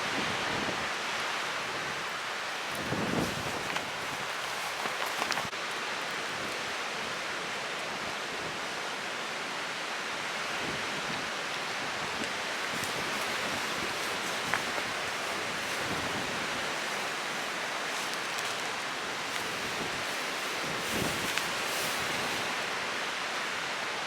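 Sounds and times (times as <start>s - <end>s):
surf on a beach: 0.0s - 24.0s
wind: 0.0s - 24.0s.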